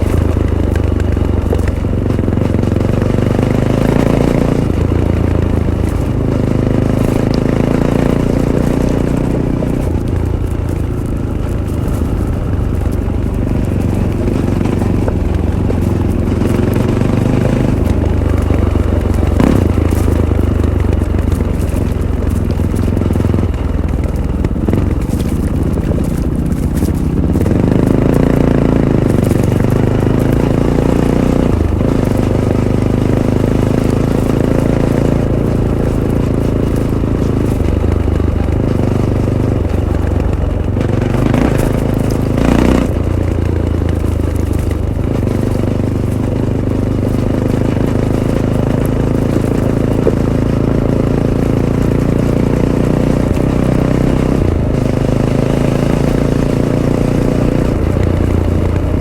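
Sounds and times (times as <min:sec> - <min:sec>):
motorcycle engine revving: 0:00.0 - 0:59.0
rushing rattling noise: 0:00.0 - 0:59.0.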